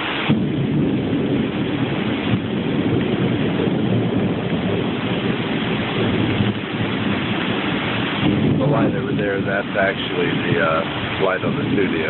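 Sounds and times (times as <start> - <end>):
rain falling: 0.0 - 12.0
thunder rumbling: 0.0 - 12.0.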